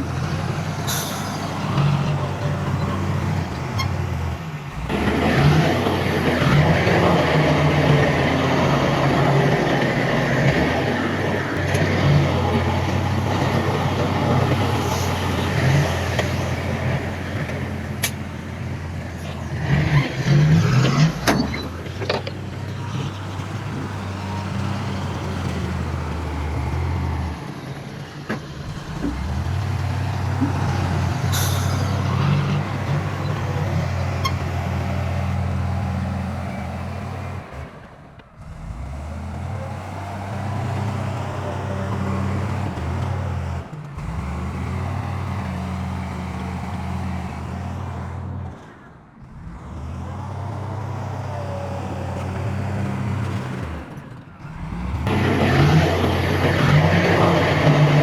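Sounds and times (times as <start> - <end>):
heavy diesel machinery engines: 0.0 - 58.0.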